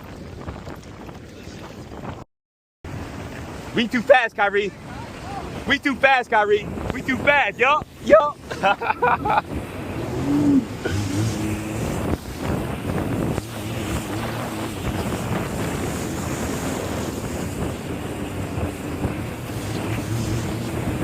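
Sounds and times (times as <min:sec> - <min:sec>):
wind rushing over microphone: 0:00.0 - 0:02.2, 0:02.9 - 0:21.0
jet ski engine running: 0:02.9 - 0:21.0
water rushing: 0:02.9 - 0:21.0.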